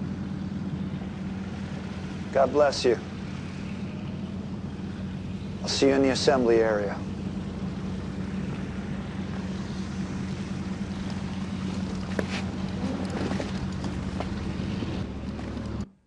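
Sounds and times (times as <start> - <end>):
plane engines droning: 0.0 - 16.0.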